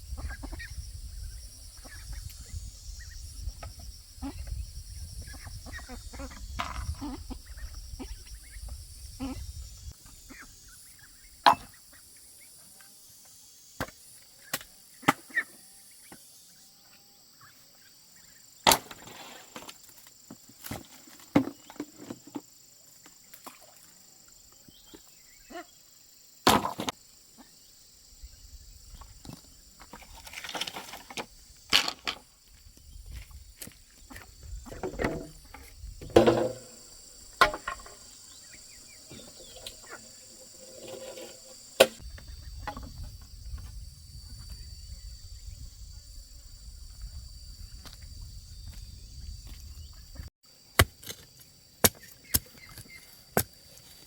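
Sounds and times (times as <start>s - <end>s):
high insect drone: 0.0s - 18.6s, 19.4s - 54.0s.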